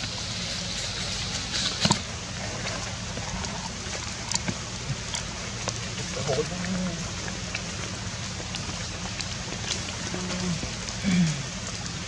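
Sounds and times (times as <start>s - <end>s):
rain hiss: 0.0s - 12.0s.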